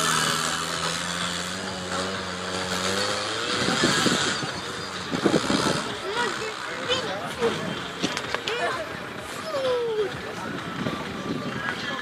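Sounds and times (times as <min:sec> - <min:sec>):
engine working hard: 0:00.0 - 0:12.0.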